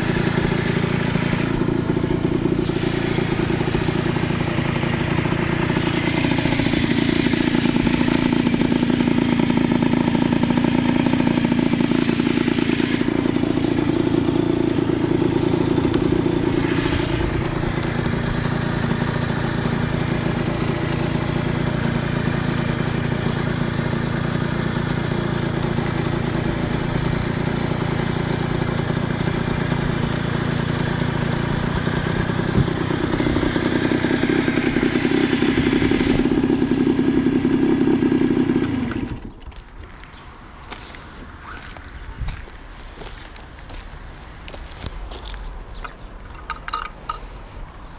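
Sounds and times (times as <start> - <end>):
two-stroke engine idling: 0.0 - 47.9.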